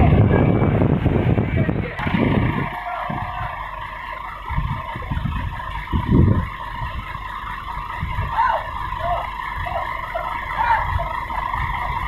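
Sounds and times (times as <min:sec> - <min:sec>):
diesel engine running: 0:00.0 - 0:12.0
high engine whine: 0:00.0 - 0:12.0.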